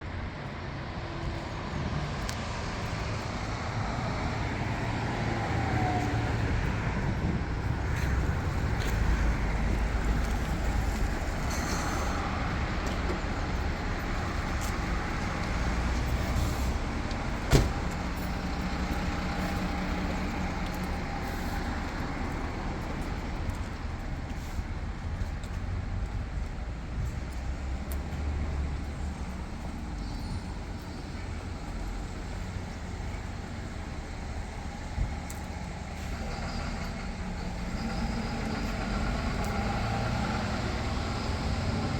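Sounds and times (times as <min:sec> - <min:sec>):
cars driving past: 0:00.3 - 0:41.9.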